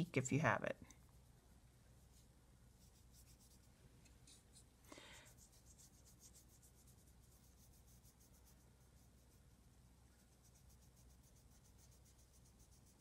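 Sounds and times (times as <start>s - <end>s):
paintbrush brushing on paper: 1.1s - 13.0s
brush scrape: 2.0s - 13.0s.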